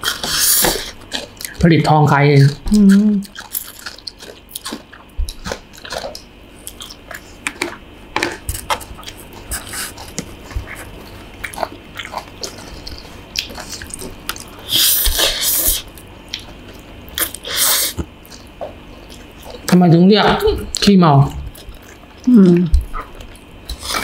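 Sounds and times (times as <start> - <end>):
chewing noodles: 0.0 - 1.6, 2.5 - 19.8, 21.5 - 24.0.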